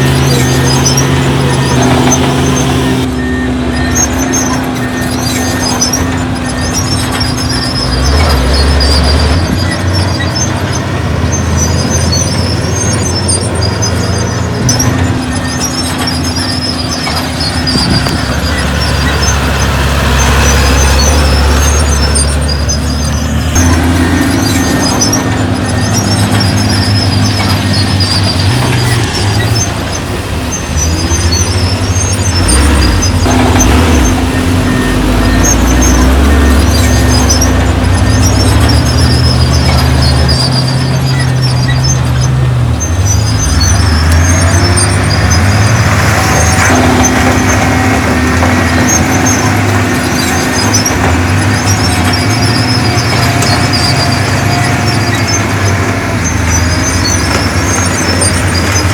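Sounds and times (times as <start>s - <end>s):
heavy diesel machinery running: 0.0s - 58.9s
short high squeaks: 0.0s - 58.9s.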